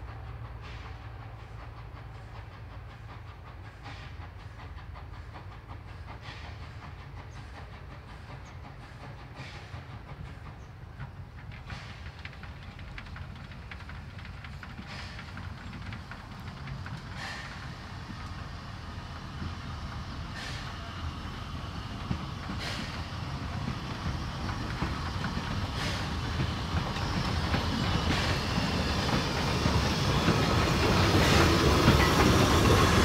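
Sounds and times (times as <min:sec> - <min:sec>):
steam puffs hissing: 0:00.0 - 0:33.0
train rumbling: 0:00.0 - 0:33.0.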